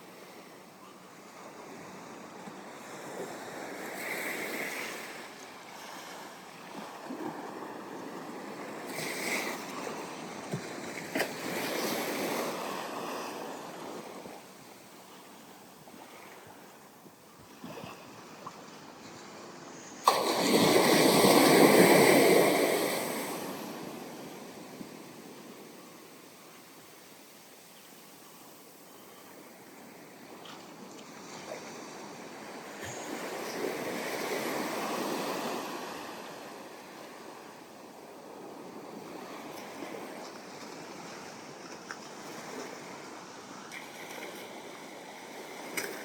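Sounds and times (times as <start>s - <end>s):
ocean waves washing onto beach: 0.0s - 46.0s.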